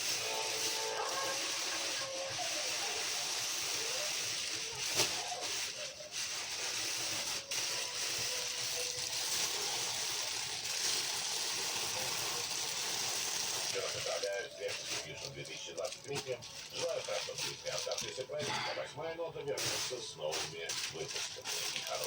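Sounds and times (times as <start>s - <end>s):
faint music: 0.0s - 22.0s
radio playing quietly: 0.0s - 22.0s.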